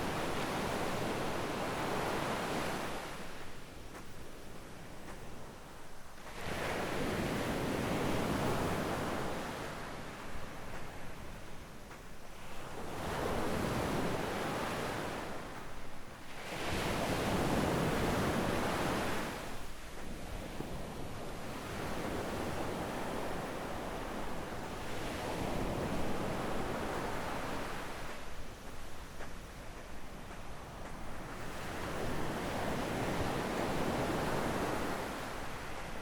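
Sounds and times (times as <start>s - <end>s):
sea waves breaking on beach: 0.0s - 3.5s, 6.2s - 11.4s, 12.4s - 36.0s.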